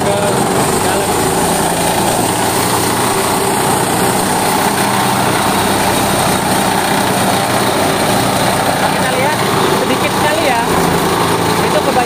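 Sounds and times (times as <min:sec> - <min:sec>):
small engine running thresher: 0:00.0 - 0:12.0.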